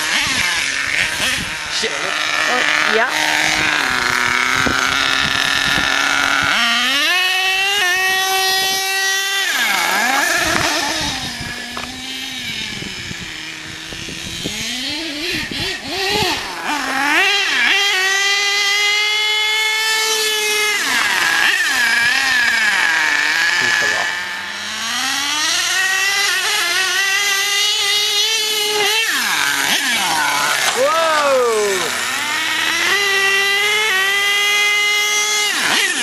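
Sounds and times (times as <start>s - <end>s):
rc truck engine revving: 0.0s - 36.0s.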